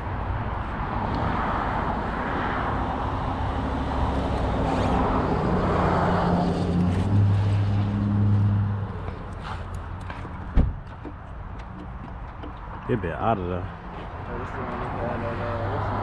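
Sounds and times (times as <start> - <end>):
tyre noise of passing cars: 0.0 - 16.0.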